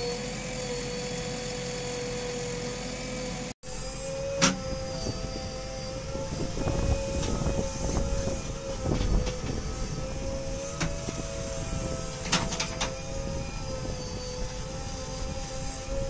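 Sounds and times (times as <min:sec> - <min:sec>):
backhoe engine and hydraulics whine: 0:00.0 - 0:16.0.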